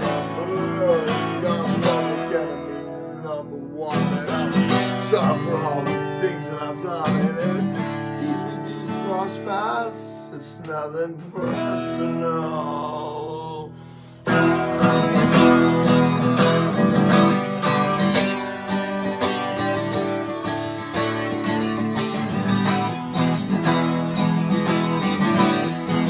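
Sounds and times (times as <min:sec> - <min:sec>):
guitar strumming: 0:00.0 - 0:26.0
person singing: 0:00.0 - 0:26.0.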